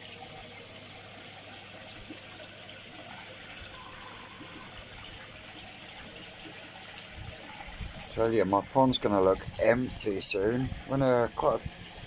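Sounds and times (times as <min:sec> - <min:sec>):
pond water trickling: 0:00.0 - 0:12.0.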